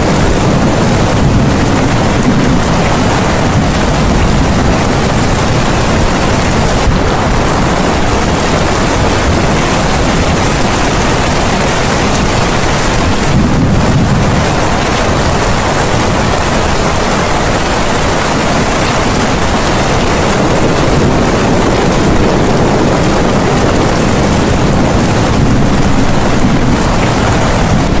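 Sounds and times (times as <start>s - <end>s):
loud steady rushing noise: 0.0s - 28.0s.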